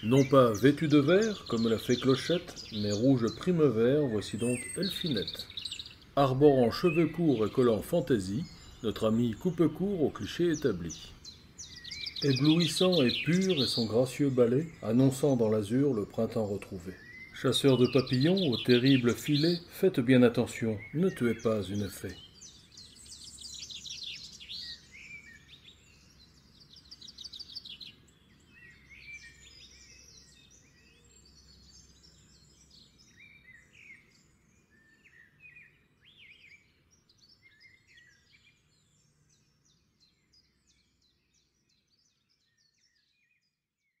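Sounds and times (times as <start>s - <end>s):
songbirds singing and chirping: 0.0s - 44.0s.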